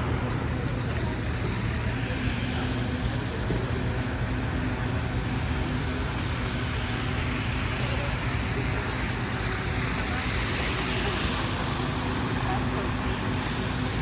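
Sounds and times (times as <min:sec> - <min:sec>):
low rumble of engines: 0:00.0 - 0:14.0.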